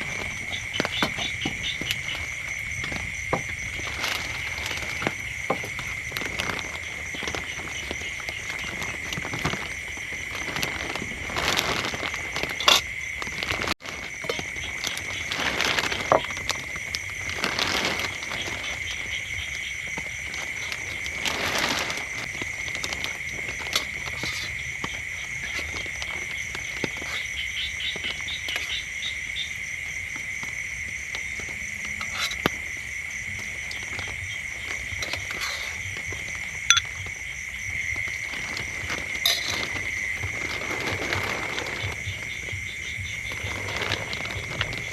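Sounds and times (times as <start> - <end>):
frogs calling: 0.0 - 44.9.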